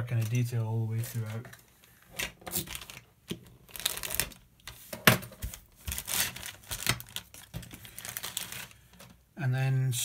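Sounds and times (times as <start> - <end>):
plastic bag crinkling: 0.0 - 4.6, 5.4 - 9.2.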